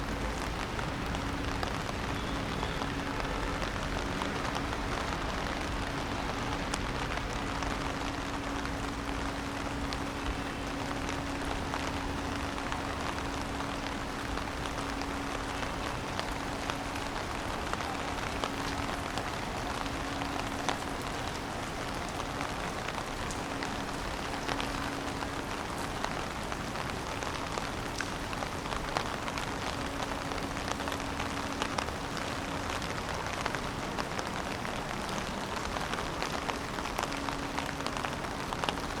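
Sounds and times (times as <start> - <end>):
raindrops ticking nearby: 0.0 - 39.0
steady rain falling: 0.0 - 39.0.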